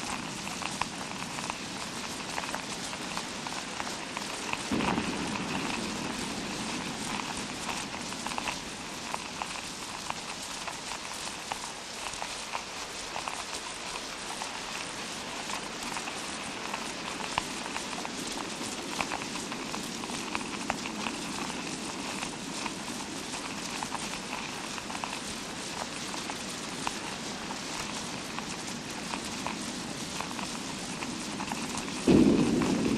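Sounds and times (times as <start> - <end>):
rain hiss: 0.0 - 32.9
sharp rain ticks: 0.0 - 32.9.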